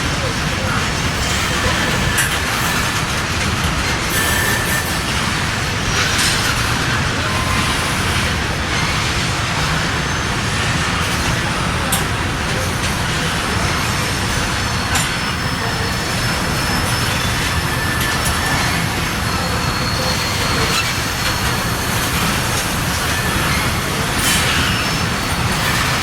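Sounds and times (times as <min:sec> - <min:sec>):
train cars rumbling past: 0:00.0 - 0:26.0
high wheel squeal: 0:00.1 - 0:26.0.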